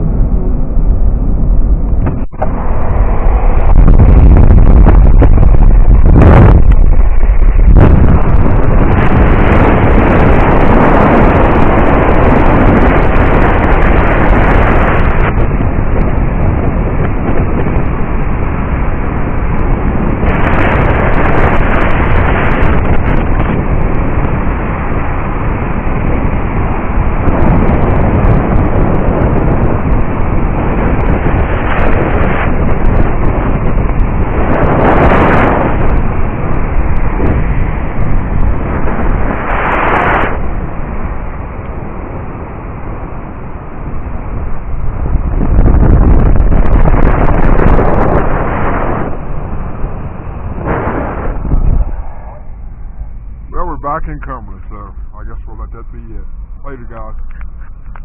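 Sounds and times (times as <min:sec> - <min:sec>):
car engine and road rumble: 0:00.0 - 0:58.0
wind buffeting microphone: 0:00.0 - 0:58.0.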